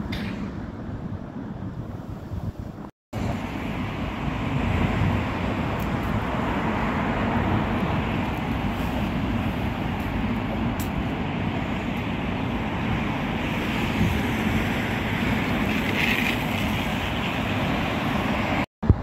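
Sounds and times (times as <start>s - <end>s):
road traffic: 0.0s - 19.0s
wind on microphone: 0.0s - 19.0s.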